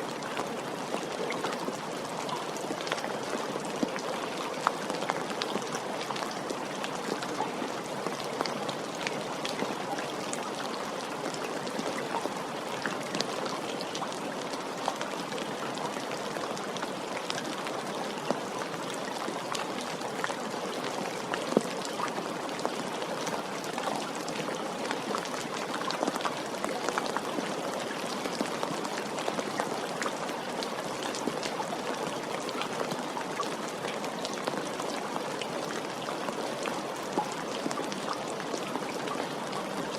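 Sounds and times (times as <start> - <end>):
rain pattering on hard surfaces: 0.0 - 39.9.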